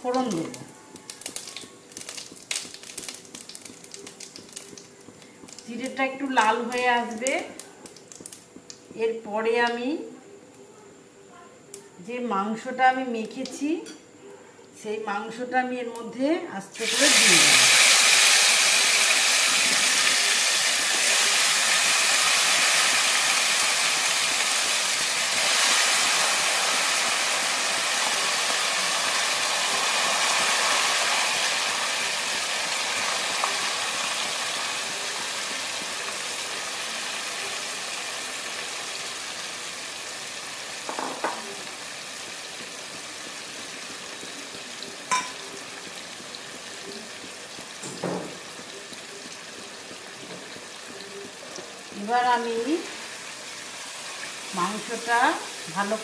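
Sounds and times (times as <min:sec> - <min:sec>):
meat sizzling in hot oil: 0:00.0 - 0:07.3, 0:16.8 - 0:56.0.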